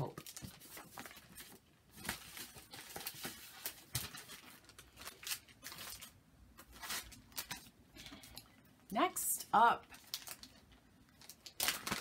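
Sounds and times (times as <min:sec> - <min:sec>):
paper rustling and crinkling: 0:00.0 - 0:08.2, 0:09.9 - 0:12.0.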